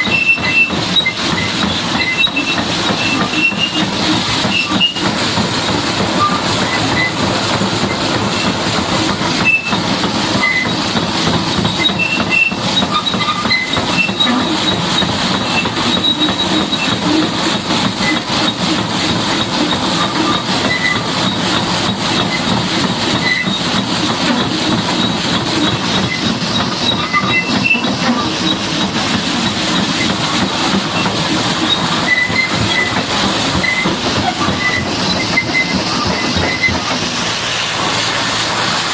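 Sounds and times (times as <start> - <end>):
high-pressure water jet spraying: 0.0 - 38.9.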